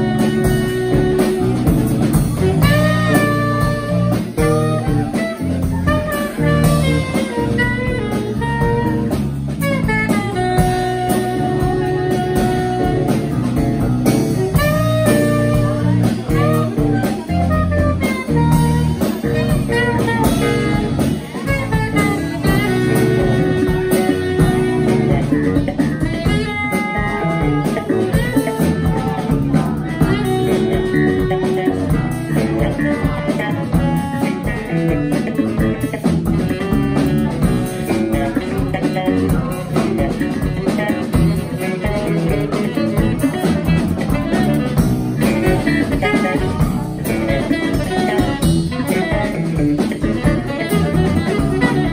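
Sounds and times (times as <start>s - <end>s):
drum kit: 0.0s - 51.9s
electric bass guitar: 0.0s - 51.9s
saxophone melody: 0.0s - 51.9s.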